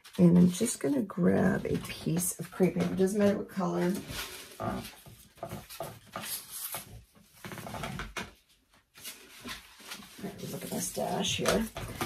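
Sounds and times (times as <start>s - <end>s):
crepe paper rustling: 0.0s - 12.0s.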